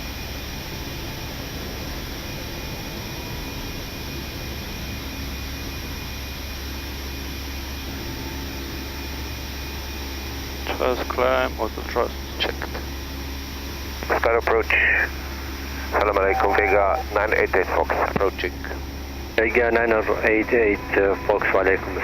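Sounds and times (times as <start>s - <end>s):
aircraft cockpit engine noise: 0.0s - 22.0s
faint steady whining tones: 0.0s - 22.0s.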